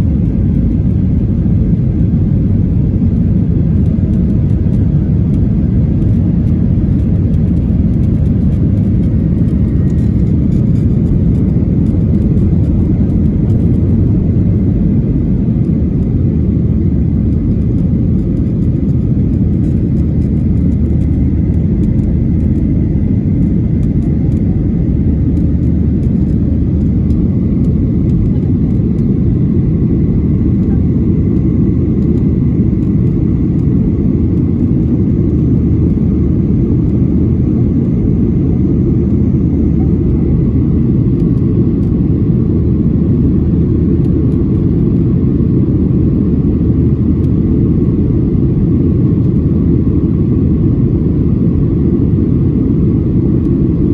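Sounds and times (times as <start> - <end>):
jet airliner cabin rumble: 0.0 - 53.9.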